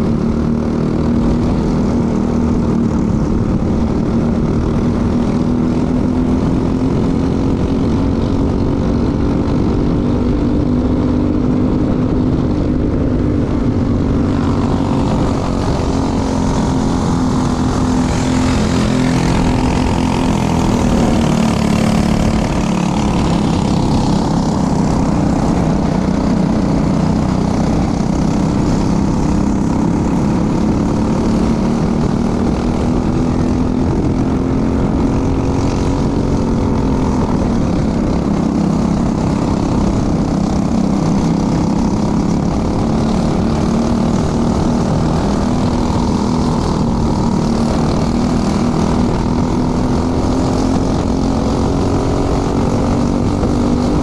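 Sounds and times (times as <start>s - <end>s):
racing kart engine: 0.0s - 54.0s
wind noise on microphone: 0.0s - 54.0s.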